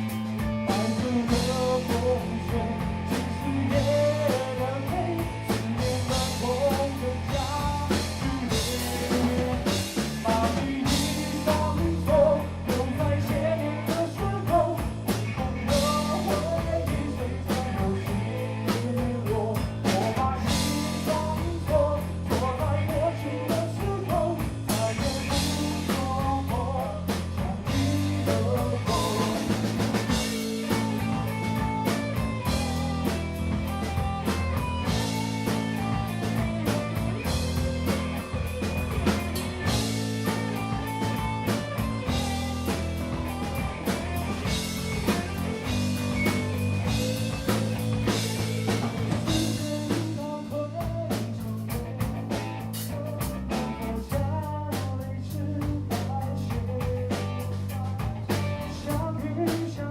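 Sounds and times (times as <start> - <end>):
bass guitar: 0.0 - 59.9
drum kit: 0.0 - 59.9
electric guitar: 0.0 - 59.9
person singing: 0.0 - 59.9.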